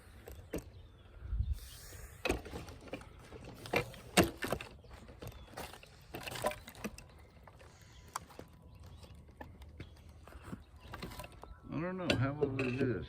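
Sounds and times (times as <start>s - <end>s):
knocks and clunks of handling: 2.2s - 13.0s.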